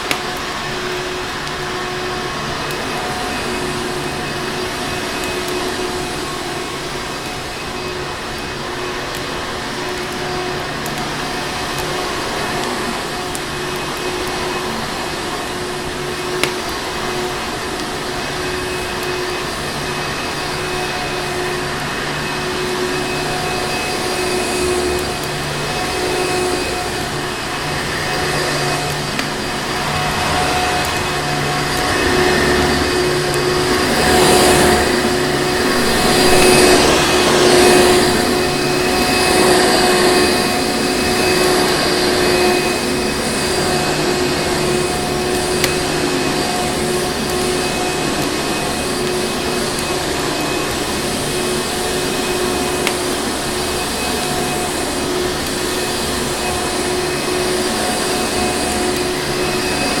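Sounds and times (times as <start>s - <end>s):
vacuum cleaner motor running: 0.0s - 60.0s.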